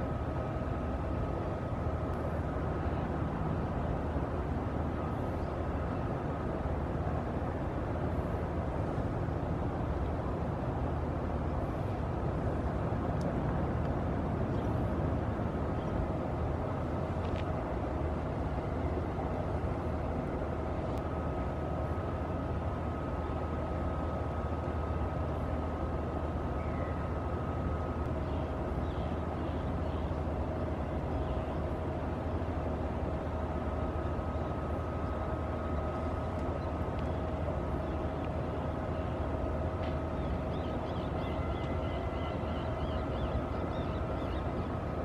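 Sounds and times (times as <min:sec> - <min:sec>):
faint high whine: 0:00.0 - 0:45.0
low engine drone: 0:00.0 - 0:45.0.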